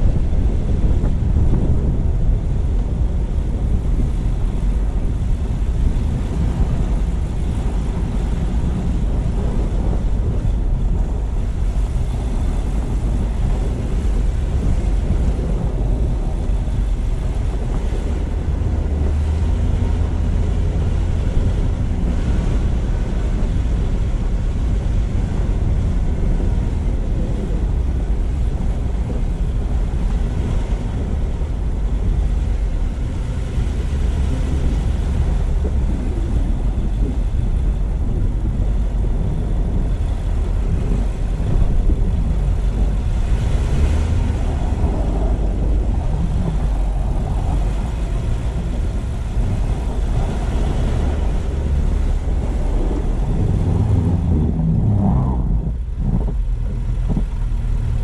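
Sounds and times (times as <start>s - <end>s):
road and tyre noise: 0.0s - 58.0s
wind on microphone: 0.0s - 58.0s.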